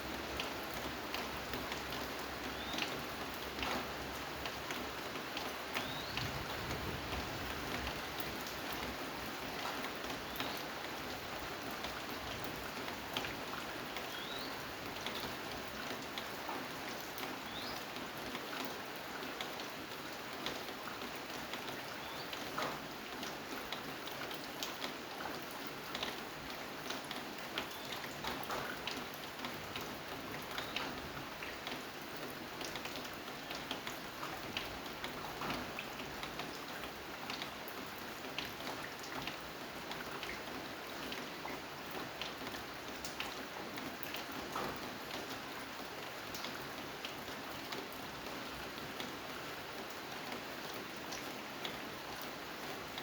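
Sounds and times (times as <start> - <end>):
raindrops ticking and tapping: 0.0 - 53.0
steady rain falling: 0.0 - 53.0.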